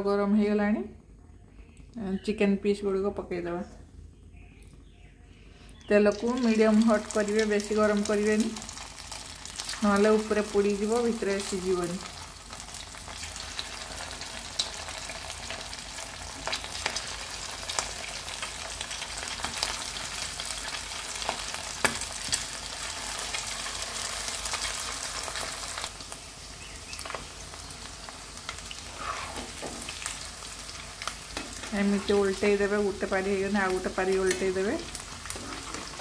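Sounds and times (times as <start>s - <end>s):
chicken deep-frying in oil: 5.9s - 36.0s.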